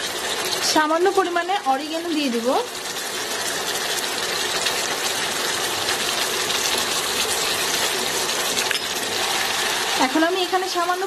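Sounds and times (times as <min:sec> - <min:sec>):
sauce bubbling and sizzling: 0:00.0 - 0:11.0.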